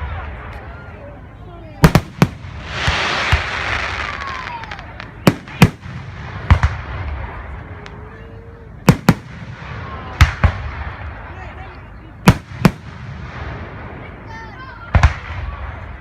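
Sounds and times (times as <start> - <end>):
fireworks crackling: 0.0 - 16.0
fireworks bangs: 1.8 - 8.2, 8.8 - 16.0.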